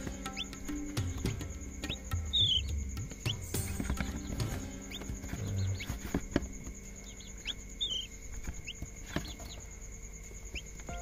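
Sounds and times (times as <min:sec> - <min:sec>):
chick peeping: 0:00.0 - 0:11.0.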